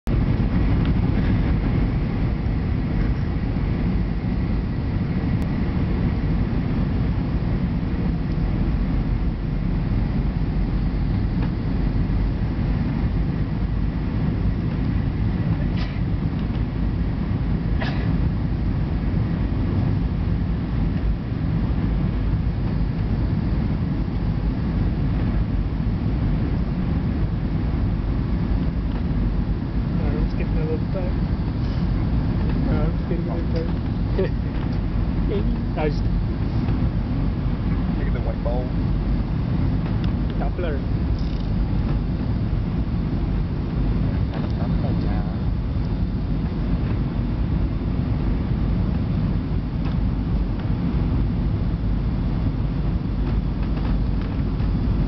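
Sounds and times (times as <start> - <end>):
aircraft engines and airflow rumble: 0.0 - 55.0
faint steady whine: 0.0 - 55.0.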